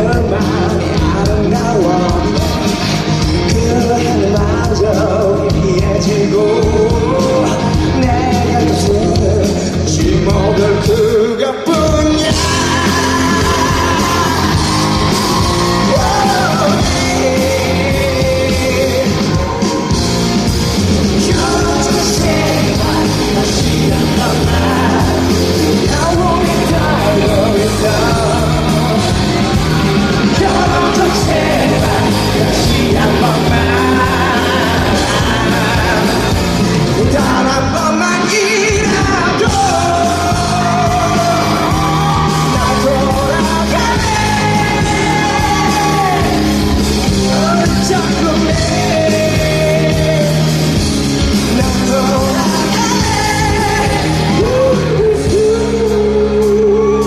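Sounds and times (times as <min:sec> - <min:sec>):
live rock band music: 0:00.0 - 0:57.0
person singing: 0:00.0 - 0:57.0.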